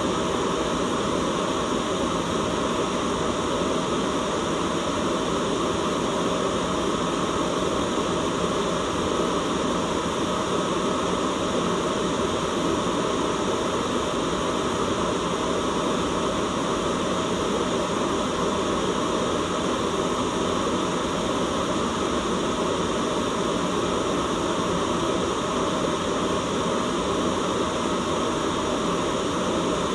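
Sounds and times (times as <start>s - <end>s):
steady white noise hiss: 0.0s - 29.9s.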